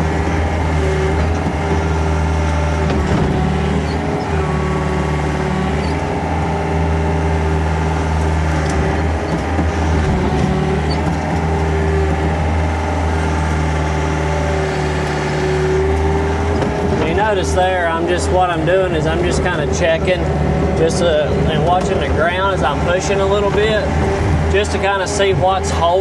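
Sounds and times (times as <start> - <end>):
heavy machine engine running: 0.0 - 26.0.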